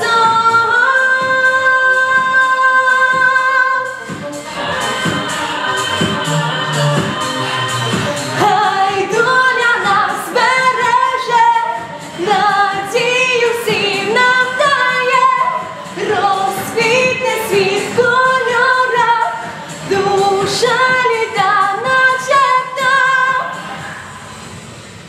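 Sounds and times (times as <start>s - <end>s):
girl singing pop song: 0.0s - 24.0s.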